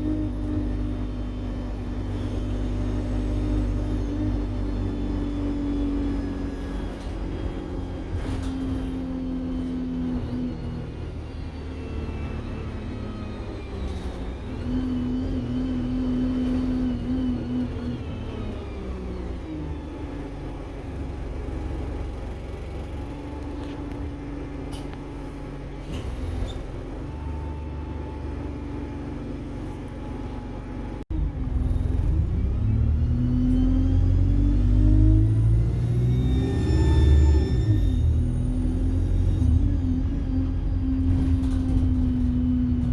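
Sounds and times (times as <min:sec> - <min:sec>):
bus diesel engine running: 0:00.0 - 0:42.9
turbocharger whine: 0:00.0 - 0:42.9.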